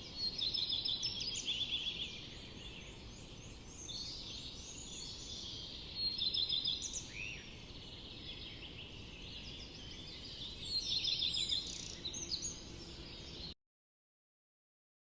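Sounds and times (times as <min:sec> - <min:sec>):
low background hiss: 0:00.0 - 0:13.5
songbirds chirping: 0:00.0 - 0:13.6.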